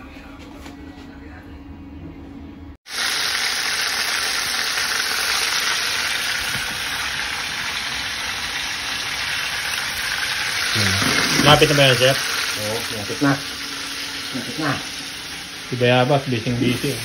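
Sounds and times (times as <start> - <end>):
fish deep-frying in hot oil: 2.9 - 17.0.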